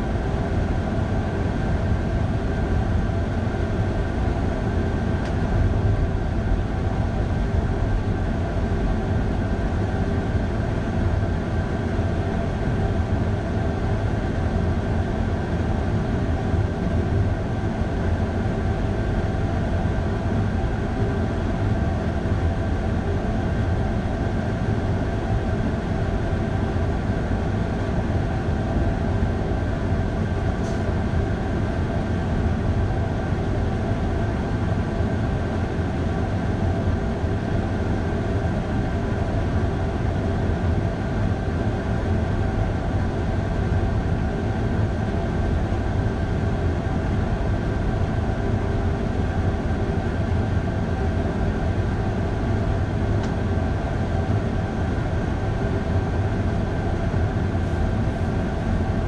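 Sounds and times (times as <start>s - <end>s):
steady humming tones: 0.0s - 59.0s.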